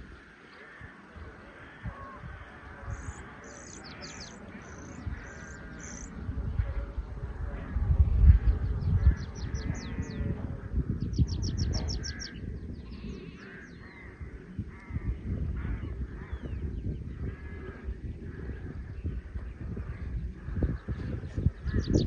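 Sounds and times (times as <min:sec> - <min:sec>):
birds calling and singing: 0:00.0 - 0:22.0
low rumbling noise: 0:00.0 - 0:22.0.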